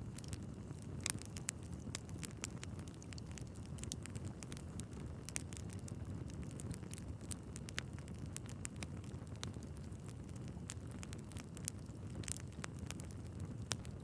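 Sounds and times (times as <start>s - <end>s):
fire pops and snaps: 0.0s - 14.0s
low rumble of flames: 0.0s - 14.0s
wood fire crackling: 0.0s - 14.0s.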